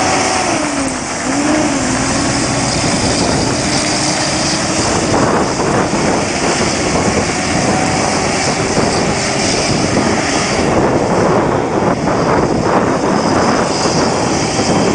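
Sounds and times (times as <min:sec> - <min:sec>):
trucks passing: 0:00.0 - 0:14.9.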